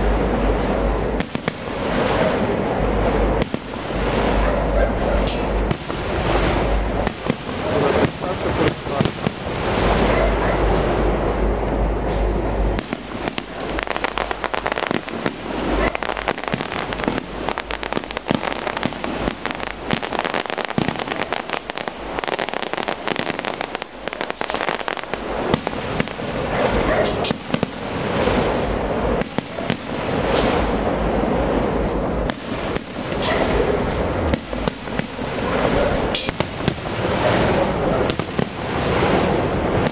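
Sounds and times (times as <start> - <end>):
fireworks crackling: 0.0 - 11.1, 12.1 - 39.9
loud firework bursts: 0.0 - 11.3, 12.1 - 39.9.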